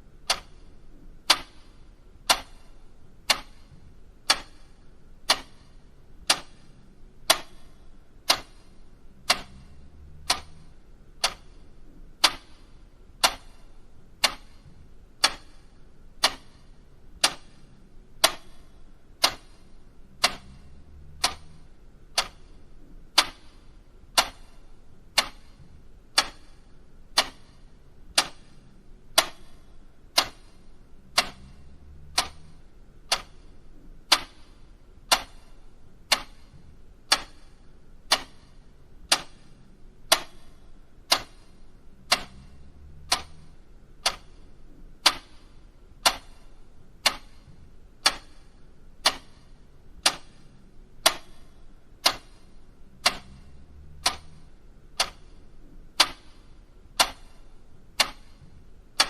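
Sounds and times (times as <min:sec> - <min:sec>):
mechanical clock ticking: 0:00.0 - 0:59.0.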